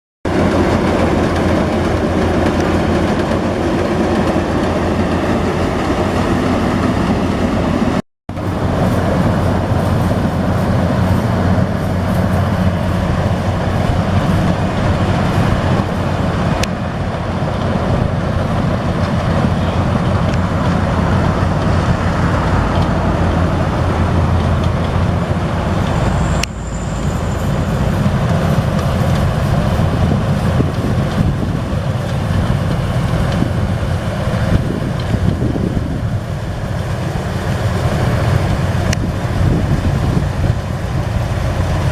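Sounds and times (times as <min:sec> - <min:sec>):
combine harvester engine running: 0:00.3 - 0:41.9.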